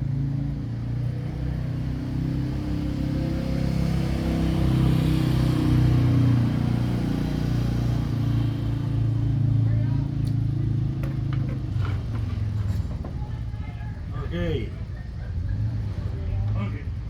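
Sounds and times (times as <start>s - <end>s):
engine running low: 0.0s - 17.0s.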